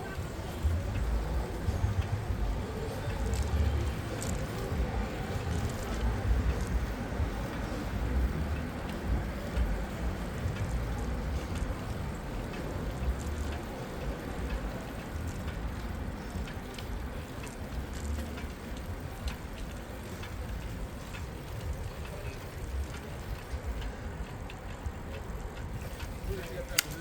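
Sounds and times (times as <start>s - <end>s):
light clicks and ticks: 0.0s - 27.0s
wind and tyre rumble: 0.0s - 27.0s.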